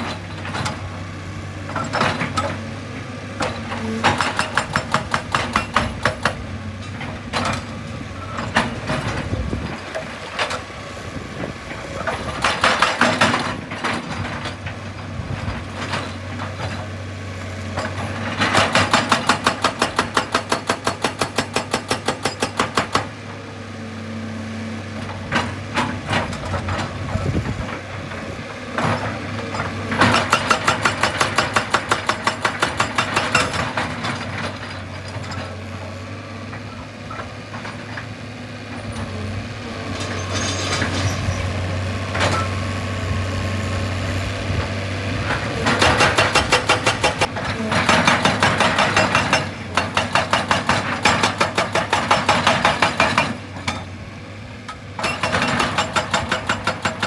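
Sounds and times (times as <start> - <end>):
hydraulic hammer pounding rock: 0.0 - 23.5, 24.8 - 57.0
excavator diesel engine running: 0.0 - 57.0.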